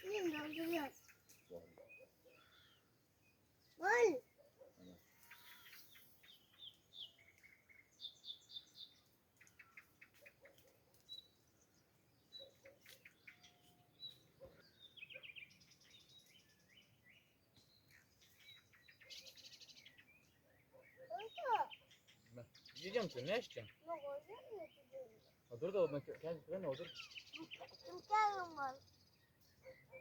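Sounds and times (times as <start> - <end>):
faint birdsong chirps and trills: 0.0 - 30.0.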